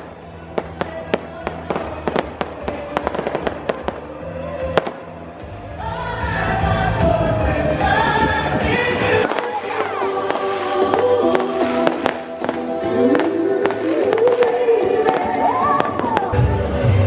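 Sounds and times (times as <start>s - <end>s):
fireworks popping and crackling: 0.0s - 5.4s, 8.0s - 16.4s
melodic music: 0.0s - 17.0s.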